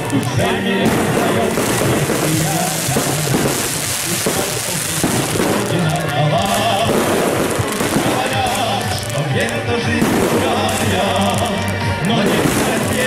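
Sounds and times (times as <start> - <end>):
fireworks crackling and popping: 0.0 - 13.0
music playing: 0.0 - 13.0.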